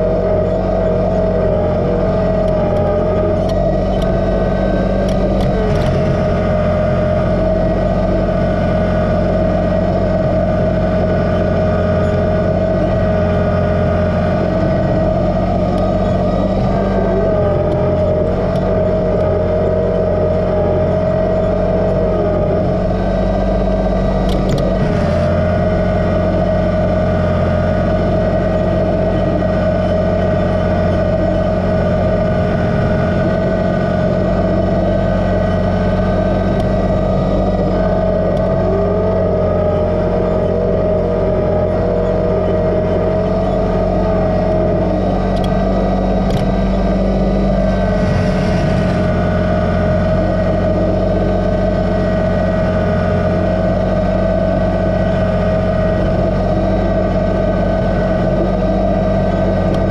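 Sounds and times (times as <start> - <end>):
steady whine: 0.0 - 59.9
tractor diesel engine running: 0.0 - 59.9.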